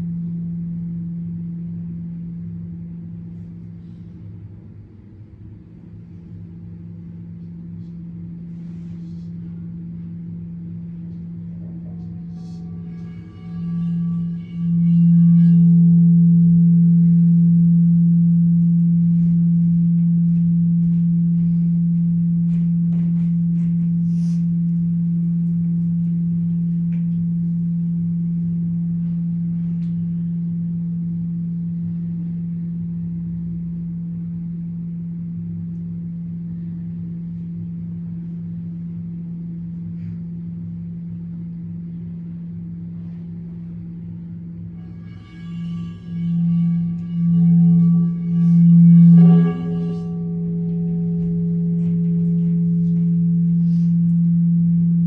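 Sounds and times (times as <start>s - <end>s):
deep ringing tone: 0.0s - 55.0s.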